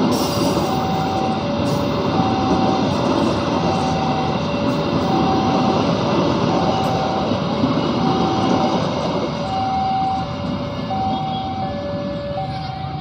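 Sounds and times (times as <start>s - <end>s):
train rolling on rails: 0.0s - 13.0s
level crossing alarm: 0.3s - 13.0s.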